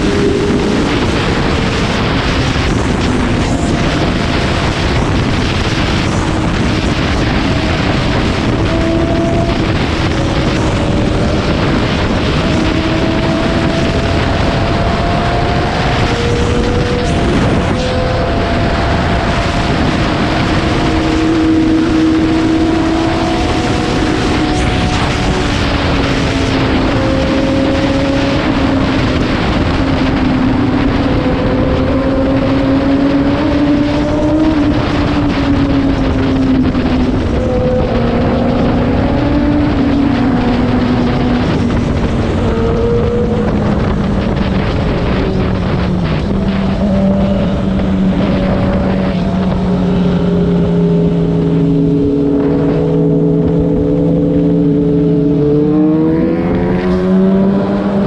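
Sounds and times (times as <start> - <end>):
motorcycle engine cruising: 0.0 - 58.0
wind rush: 0.0 - 58.0.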